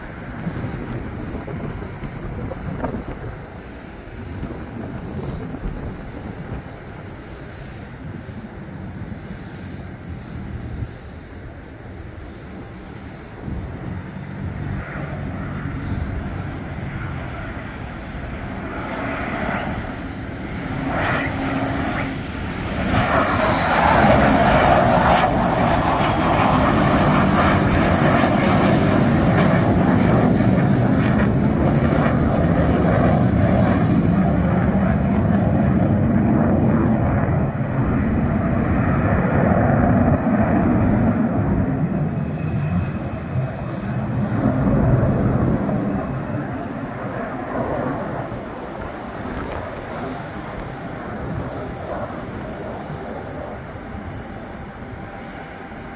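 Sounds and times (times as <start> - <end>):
jet flying past: 0.0 - 55.9.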